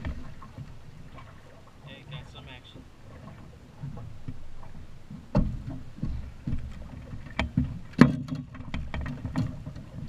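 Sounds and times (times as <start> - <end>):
knocks and thumps on boat: 0.0 - 10.0.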